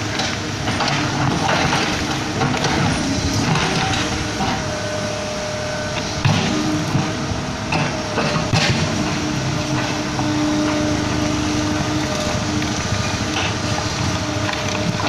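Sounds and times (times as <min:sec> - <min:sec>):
excavator diesel engine running: 0:00.0 - 0:15.0
hydraulic whine: 0:00.0 - 0:15.0.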